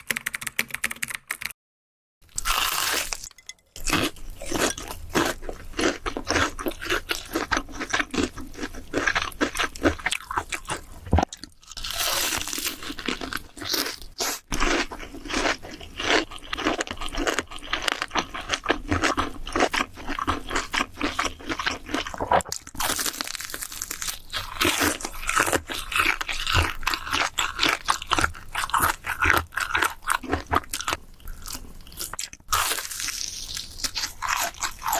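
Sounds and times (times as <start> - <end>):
crunchy food being chewed: 2.2 - 34.9.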